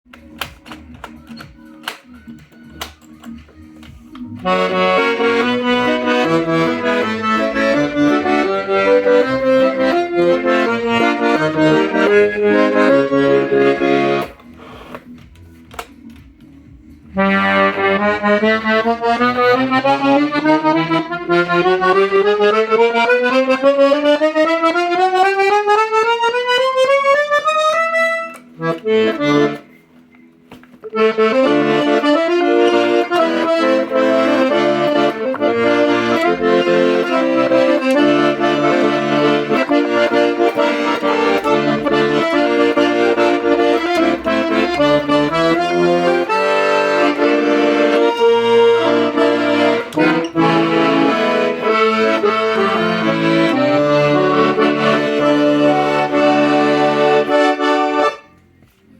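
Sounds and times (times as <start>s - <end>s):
piano accordion playing: 0.1s - 58.6s.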